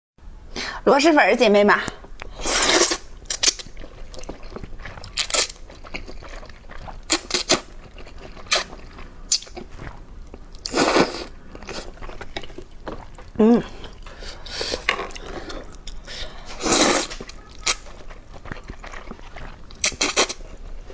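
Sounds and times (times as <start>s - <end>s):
person chewing: 2.0s - 20.9s.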